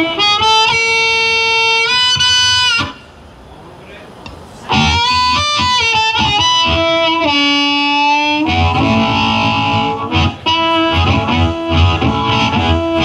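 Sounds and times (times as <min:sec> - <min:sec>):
amplified blues harmonica: 0:00.0 - 0:03.1, 0:04.7 - 0:13.0
band playing low: 0:00.0 - 0:03.2, 0:04.2 - 0:13.0.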